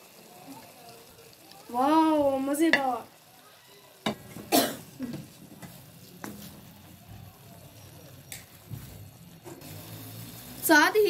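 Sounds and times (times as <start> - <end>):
low hiss of steaming pan: 0.0 - 11.0.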